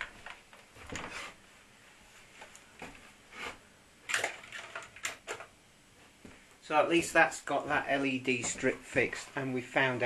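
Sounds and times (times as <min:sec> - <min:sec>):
faint rustles and knocks of handling: 0:00.0 - 0:03.7, 0:04.8 - 0:10.0.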